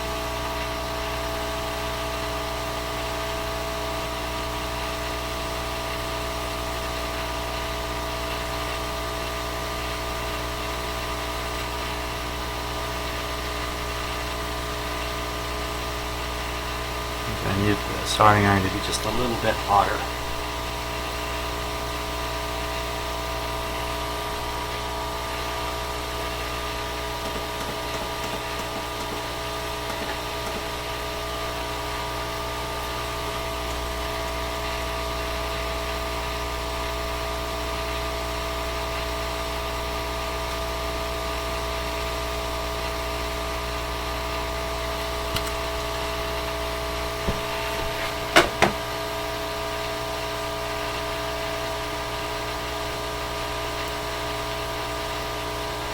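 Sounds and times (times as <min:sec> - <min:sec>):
fan humming and whining: 0:00.0 - 0:55.9.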